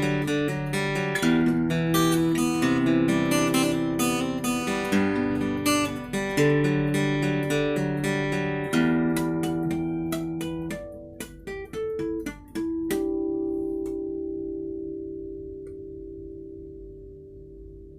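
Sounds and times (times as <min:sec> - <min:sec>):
acoustic guitar plucked notes and chords: 0:00.0 - 0:17.9.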